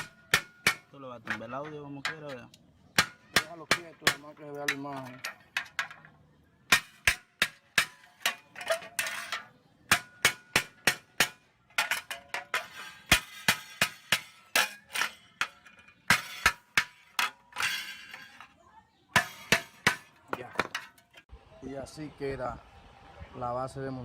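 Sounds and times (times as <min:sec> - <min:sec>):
hammer striking metal: 0:00.0 - 0:02.4, 0:03.0 - 0:06.0, 0:06.7 - 0:18.5, 0:19.2 - 0:21.2.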